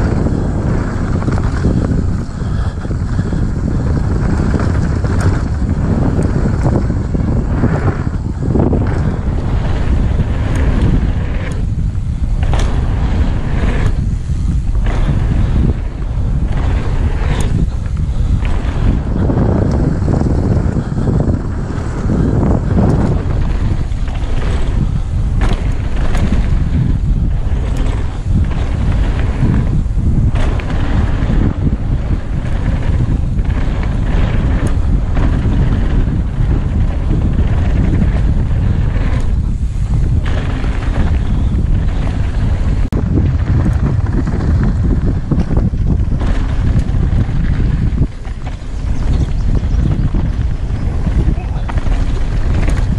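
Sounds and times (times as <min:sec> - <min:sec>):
bike clicking and rattling: 0:00.0 - 0:52.9
bike tyres rumbling on dirt: 0:00.0 - 0:52.9
wind buffeting microphone: 0:00.0 - 0:52.9.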